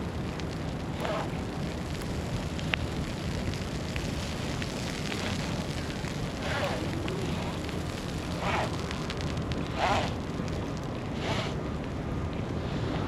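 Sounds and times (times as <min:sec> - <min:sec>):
crackly hiss: 0:00.0 - 0:13.0
low rumble: 0:00.0 - 0:13.0.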